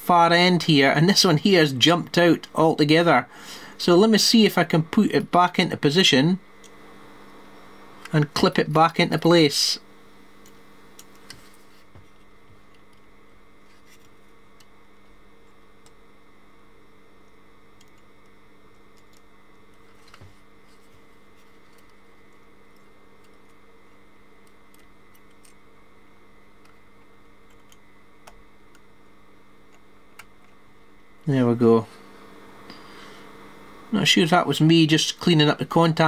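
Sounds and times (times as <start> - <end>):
faint hum: 0.0 - 36.0.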